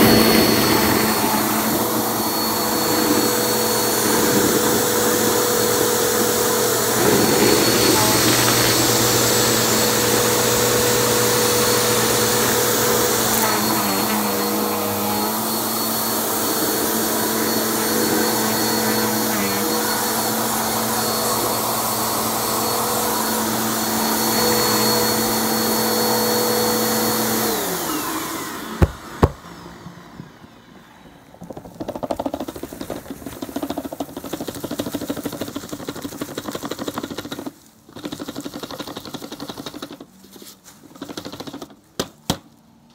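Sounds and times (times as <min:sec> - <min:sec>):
vacuum cleaner motor: 0:00.0 - 0:40.0.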